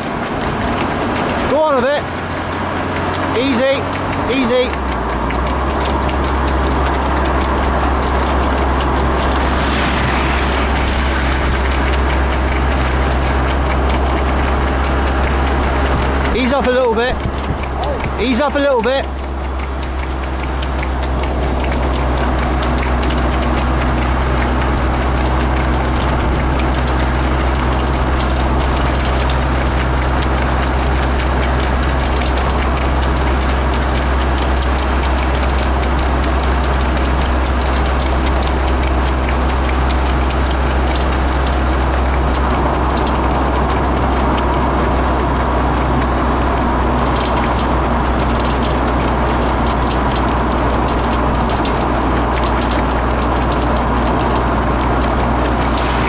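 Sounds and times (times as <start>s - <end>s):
vehicle engine and tyre drone: 0.0s - 56.0s.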